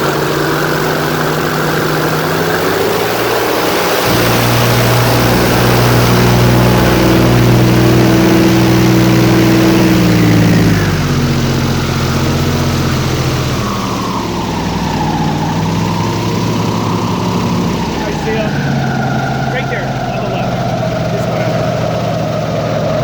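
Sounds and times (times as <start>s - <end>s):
airboat engine and propeller: 0.0s - 23.0s.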